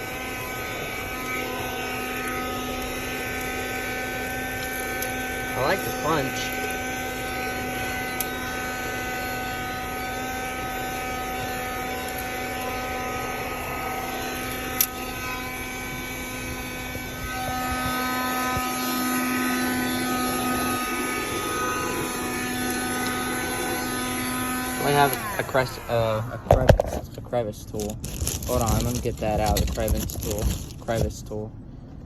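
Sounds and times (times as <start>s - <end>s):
handheld vacuum motor whining: 0.0s - 32.0s.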